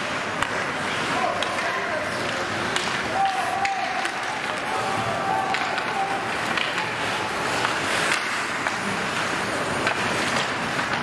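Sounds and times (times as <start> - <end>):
arena noise: 0.0 - 11.0
skate blades scraping ice: 0.0 - 11.0.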